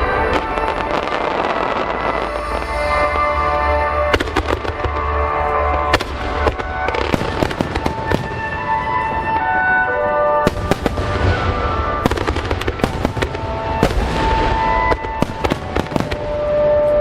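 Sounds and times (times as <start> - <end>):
fireworks bangs: 0.0 - 17.0
fireworks crackling: 0.0 - 17.0
music with long held notes: 0.0 - 17.0.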